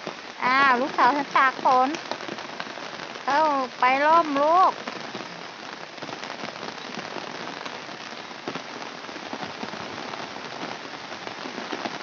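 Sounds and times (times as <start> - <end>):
heavy rain hissing: 0.0 - 12.0
raindrops ticking: 0.0 - 12.0.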